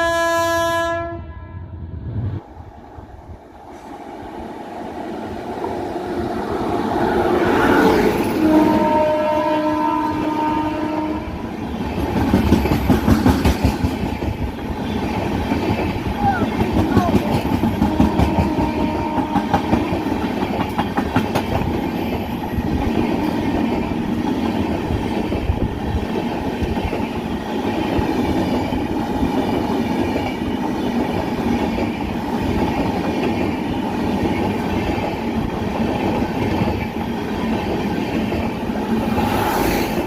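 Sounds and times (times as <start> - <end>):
train wheels rumbling: 1.2 - 40.0.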